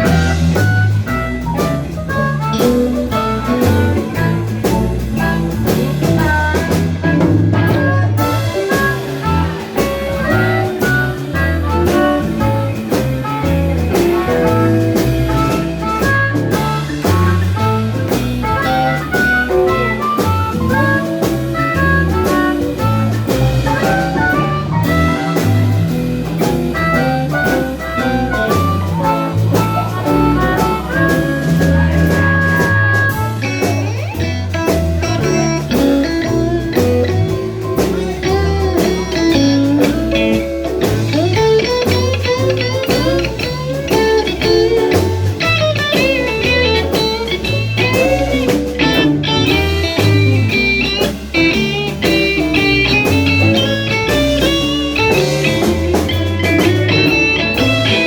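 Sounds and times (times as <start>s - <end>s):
bass line: 0.0s - 58.0s
drum kit: 0.0s - 58.0s
lead guitar melody: 0.0s - 58.0s.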